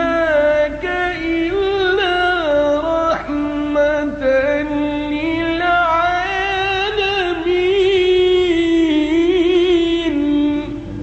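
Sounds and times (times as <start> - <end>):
person reciting melodically: 0.0 - 11.0.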